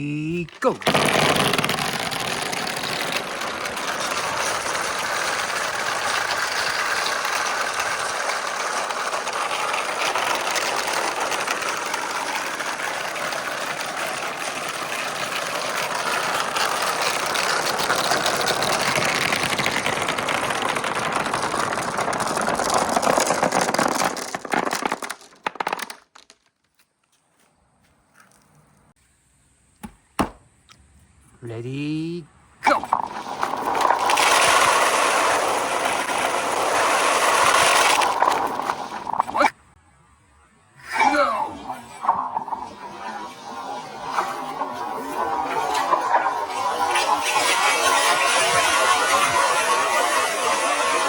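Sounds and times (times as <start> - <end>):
glass marbles rolling and clattering: 0.4 - 26.7, 32.7 - 39.6, 41.0 - 51.0.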